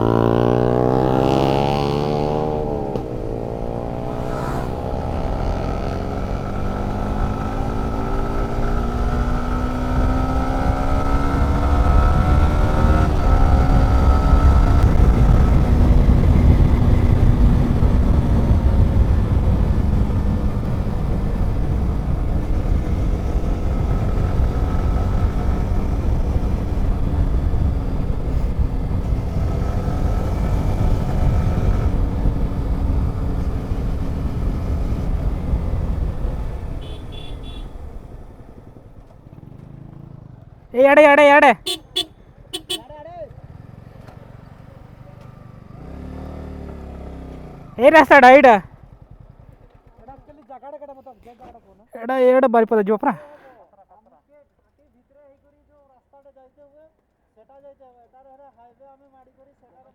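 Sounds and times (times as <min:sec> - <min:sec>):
motorcycle engine running: 0:00.0 - 0:40.7, 0:41.6 - 0:50.4.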